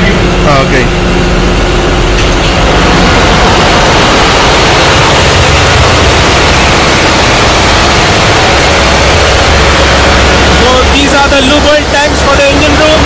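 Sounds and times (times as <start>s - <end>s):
engine room machinery noise: 0.0s - 13.0s.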